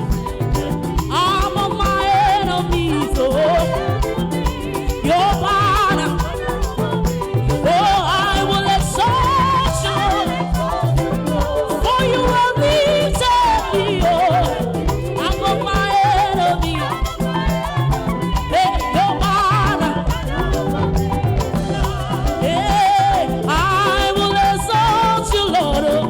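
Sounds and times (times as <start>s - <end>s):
drums and bass dance beat: 0.0s - 26.0s
voices singing along: 0.0s - 26.0s.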